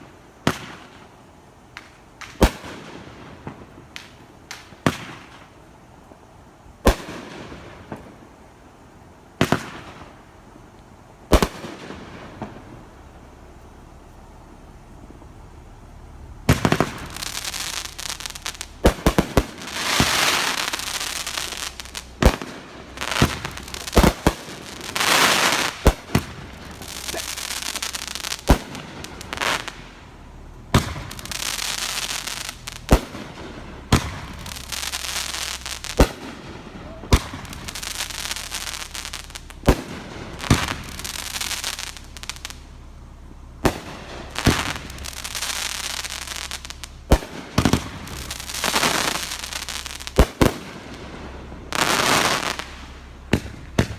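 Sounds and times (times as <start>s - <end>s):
firework bangs: 0.0s - 5.6s, 6.8s - 8.4s, 9.3s - 10.4s, 11.1s - 53.9s
crackling hissing firework trail: 0.0s - 53.9s.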